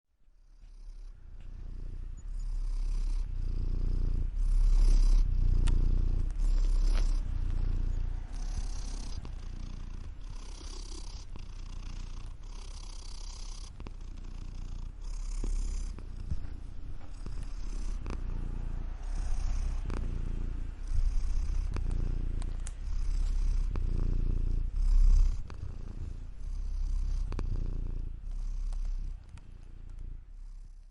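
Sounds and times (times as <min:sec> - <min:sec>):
cat purring: 0:00.2 - 0:30.9.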